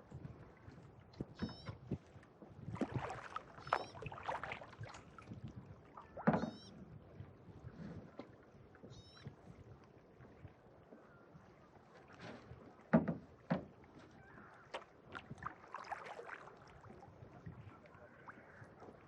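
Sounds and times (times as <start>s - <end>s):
paddle splashing in water: 0.0s - 19.0s.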